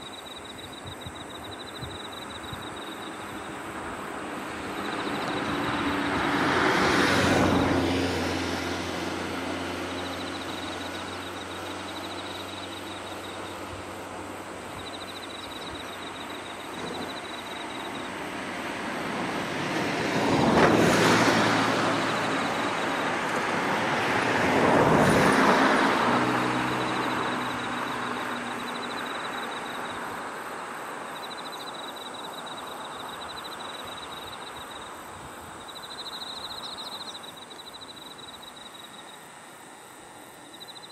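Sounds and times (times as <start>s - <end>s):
faint high insect trill: 0.0s - 40.9s
vehicles passing on road: 0.0s - 40.9s.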